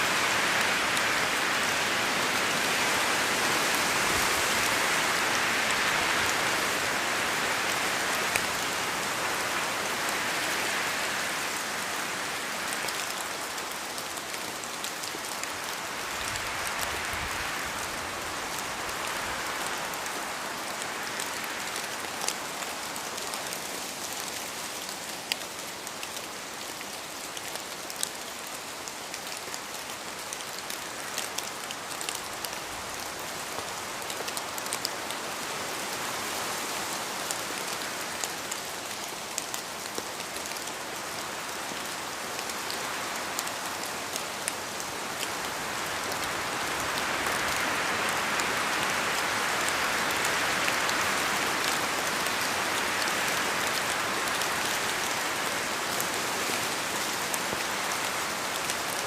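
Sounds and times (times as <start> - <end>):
steady rain in a forest: 0.0 - 59.0.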